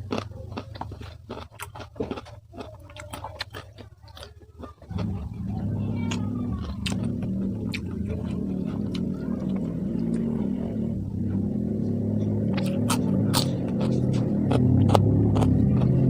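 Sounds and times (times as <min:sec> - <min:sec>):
chewing crunchy food: 0:00.0 - 0:16.0
low engine-like hum: 0:02.4 - 0:16.0.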